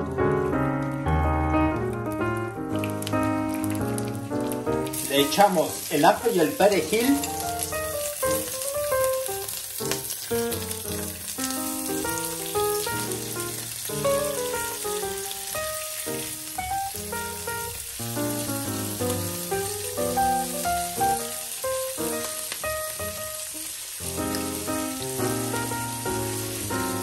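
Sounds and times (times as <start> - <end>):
clams sizzling on a grill pan: 2.8 - 27.0.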